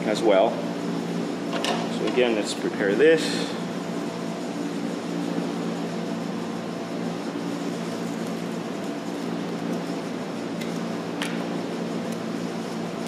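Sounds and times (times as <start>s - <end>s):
room tone hum and hiss: 0.0s - 13.0s.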